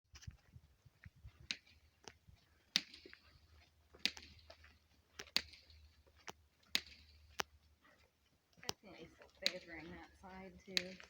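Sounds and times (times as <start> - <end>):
pony hooves clicking: 0.1 - 11.0.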